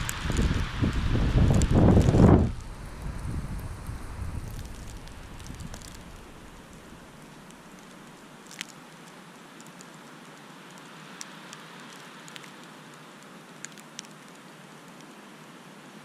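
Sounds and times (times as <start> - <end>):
snowflakes ticking on camera: 0.0 - 15.2
hiss of wind-driven snowfall: 0.0 - 16.0.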